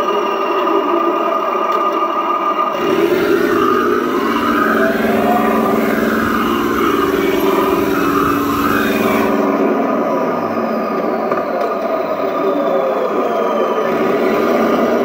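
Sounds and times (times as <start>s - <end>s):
simulated tank engine sound: 0.0s - 15.0s.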